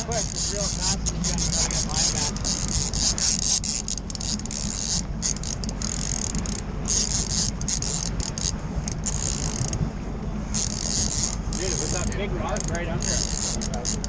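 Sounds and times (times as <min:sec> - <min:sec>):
fishing reel drag buzzing: 0:00.0 - 0:09.9, 0:10.5 - 0:14.0
boat engine drone: 0:00.0 - 0:14.0.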